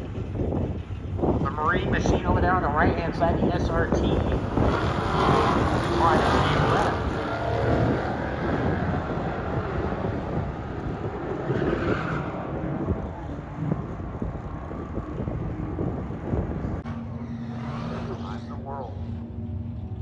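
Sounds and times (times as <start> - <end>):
drag racing car engines: 0.0 - 20.0.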